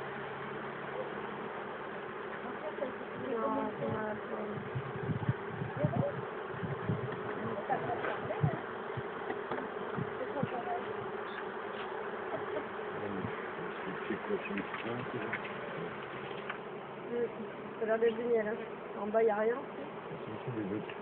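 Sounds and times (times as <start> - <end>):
honeybee colony buzzing: 0.0 - 21.0.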